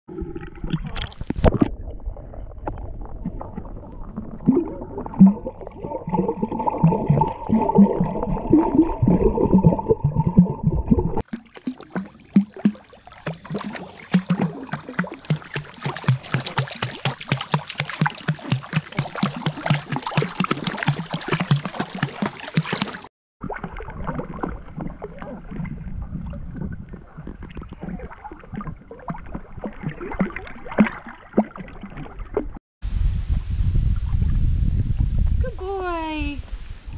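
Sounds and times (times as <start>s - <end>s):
water splashing and sloshing: 0.1s - 32.6s.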